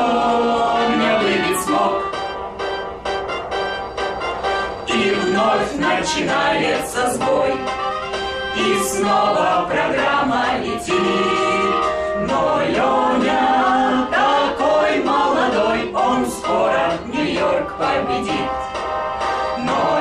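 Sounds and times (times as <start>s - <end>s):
group singing a birthday song: 0.0s - 2.4s, 4.8s - 20.0s.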